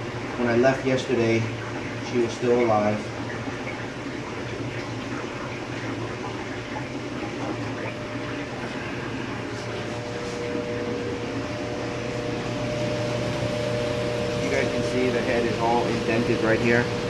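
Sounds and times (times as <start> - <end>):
equipment humming: 0.0 - 17.0
water sloshing and dripping: 0.0 - 17.0.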